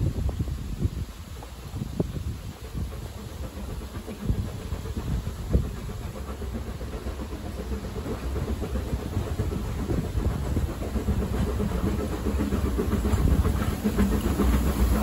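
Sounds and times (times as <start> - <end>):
steam locomotive exhaust rumble: 0.0 - 15.0
train wheels on rails: 0.0 - 15.0.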